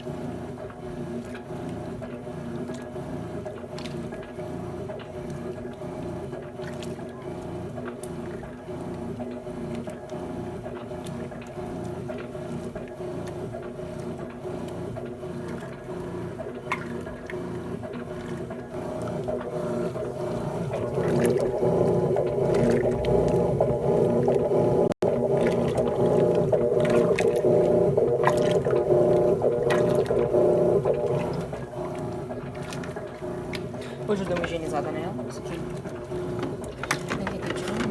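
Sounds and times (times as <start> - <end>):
washing machine motor hum: 0.0 - 37.9
water sloshing: 0.0 - 37.9.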